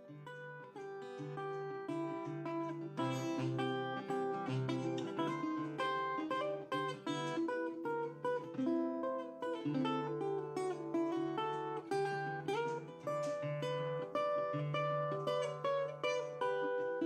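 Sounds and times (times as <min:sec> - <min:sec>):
guitar plucked notes and chords: 0:00.0 - 0:17.0.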